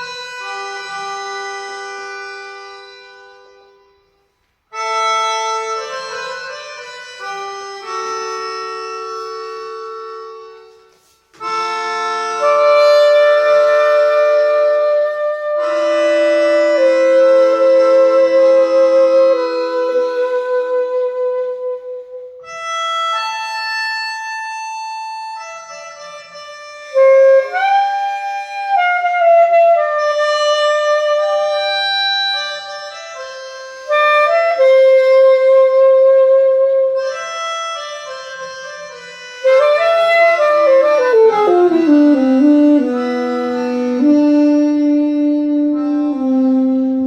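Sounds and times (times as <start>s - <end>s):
melodica piece: 0.0s - 47.0s
alto saxophone: 4.7s - 24.6s, 25.4s - 47.0s.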